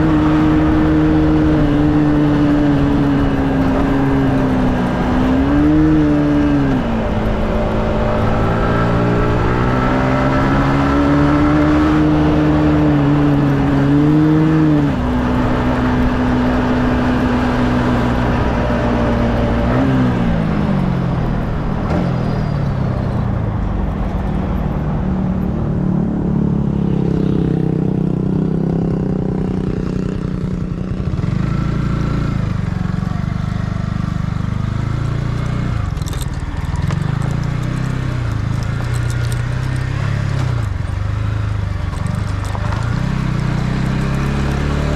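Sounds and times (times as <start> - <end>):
motorcycle engine while riding: 0.0 - 44.9.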